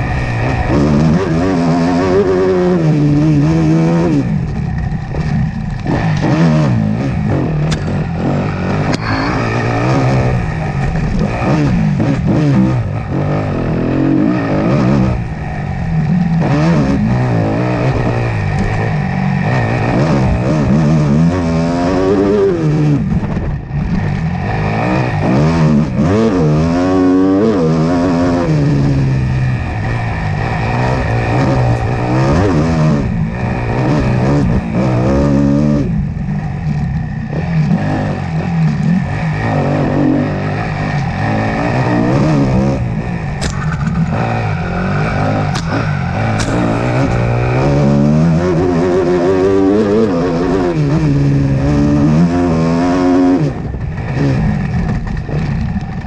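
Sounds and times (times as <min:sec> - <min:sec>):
racing engine revving: 0:00.0 - 0:56.0.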